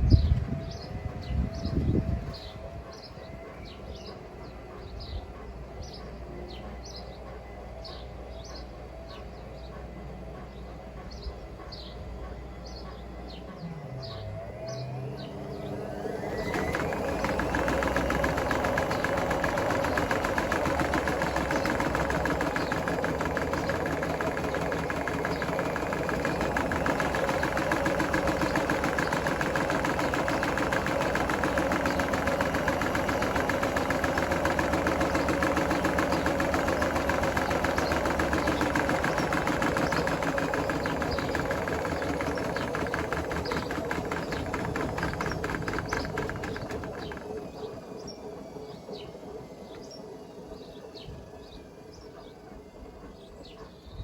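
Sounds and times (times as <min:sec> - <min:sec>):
washing machine spinning: 0:09.8 - 0:54.0.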